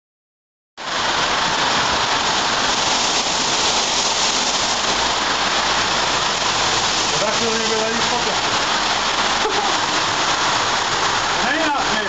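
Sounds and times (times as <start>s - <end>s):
heavy rain hissing: 0.8s - 12.0s.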